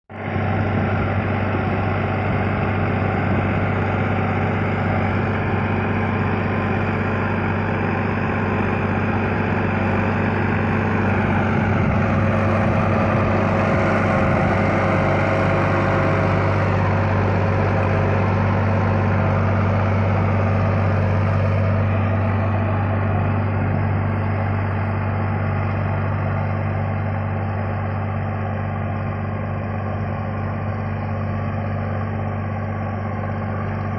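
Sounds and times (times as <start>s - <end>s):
tractor diesel engine at high revs: 0.1s - 33.9s.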